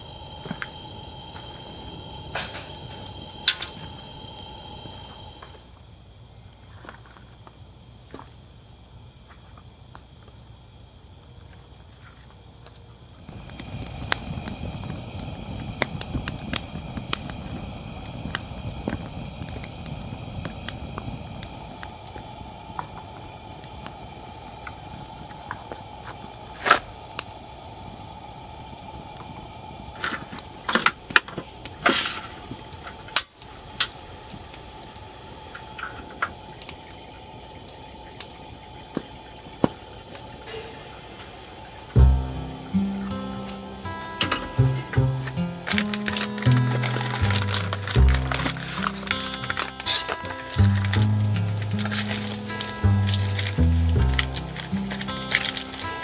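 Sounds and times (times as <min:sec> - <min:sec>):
wood crackling and popping: 0:00.0 - 0:05.8, 0:06.5 - 0:10.5, 0:11.2 - 0:56.0
low rustle of flame: 0:00.0 - 0:56.0.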